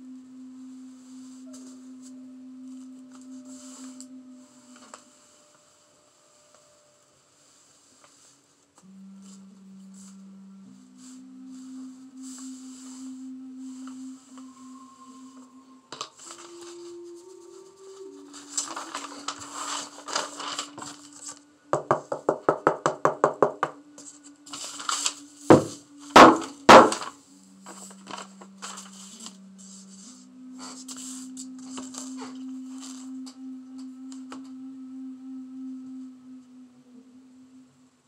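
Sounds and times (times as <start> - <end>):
steady low hum: 0.0 - 21.7, 23.8 - 38.0.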